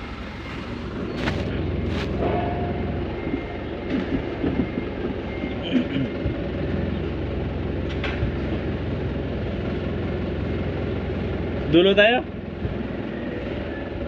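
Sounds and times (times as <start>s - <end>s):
truck engine drone from cab: 0.0s - 14.0s.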